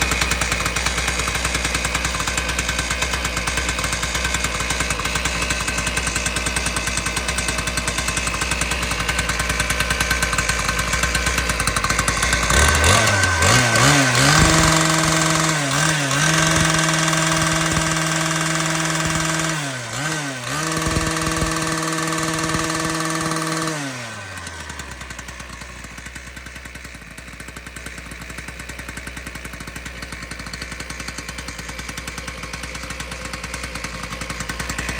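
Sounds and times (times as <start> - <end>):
two-stroke engine cutter revving: 0.0 - 34.9.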